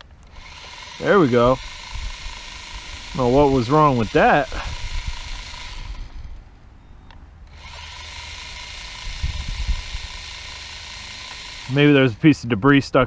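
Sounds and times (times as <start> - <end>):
toy drone motors whirring: 0.0 - 6.4, 7.4 - 12.4
low wind thumps: 0.3 - 6.7, 7.4 - 11.7.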